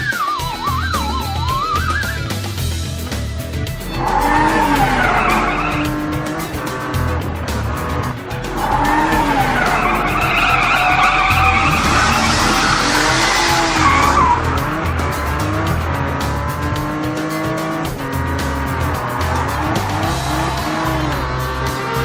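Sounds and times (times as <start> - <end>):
background music with beat: 0.0 - 22.0
cartoon tyres screeching: 3.6 - 22.0.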